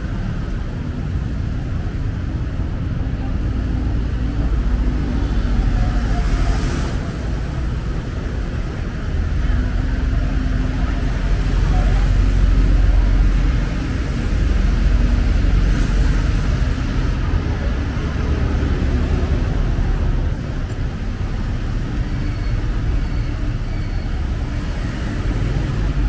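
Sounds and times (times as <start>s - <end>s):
bus engine running: 0.0s - 26.0s
scooters and cars passing: 0.0s - 26.0s.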